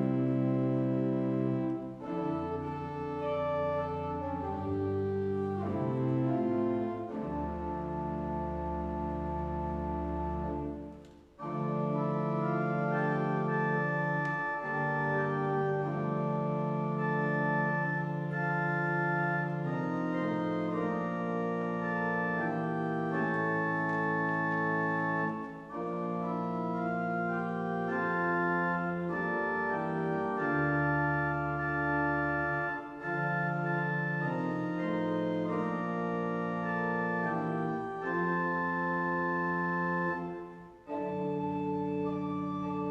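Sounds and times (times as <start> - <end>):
organ playing sustained chords: 0.0 - 42.9.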